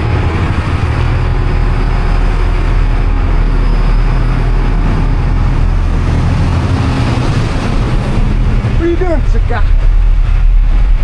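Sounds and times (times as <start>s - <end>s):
boat engines droning: 0.0s - 11.0s
water wash: 0.0s - 11.0s
wind: 0.0s - 11.0s.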